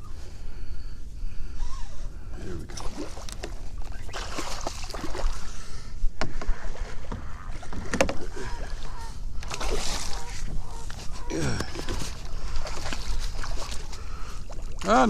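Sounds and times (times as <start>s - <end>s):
water splashing and sloshing: 2.5s - 15.0s.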